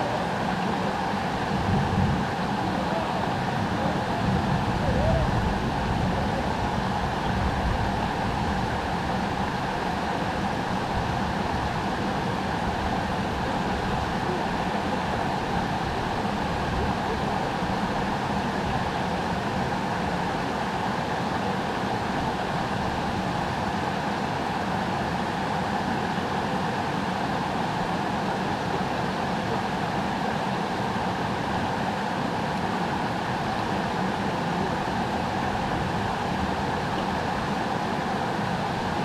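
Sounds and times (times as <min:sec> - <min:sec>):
stream rushing over rock: 0:00.0 - 0:39.0.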